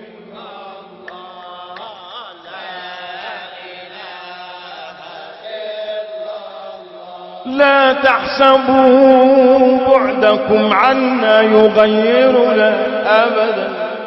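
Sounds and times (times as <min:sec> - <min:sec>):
group chanting drone: 0:00.0 - 0:14.0
wavering melodic chant line: 0:00.0 - 0:14.0.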